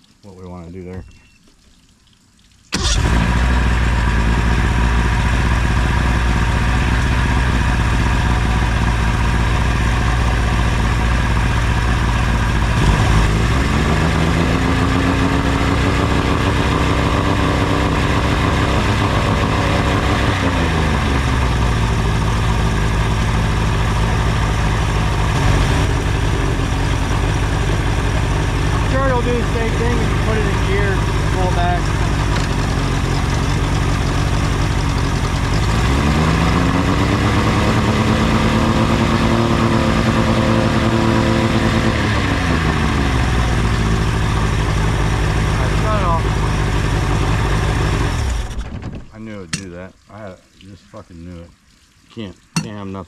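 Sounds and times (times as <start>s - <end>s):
outboard motor running: 2.7s - 50.3s.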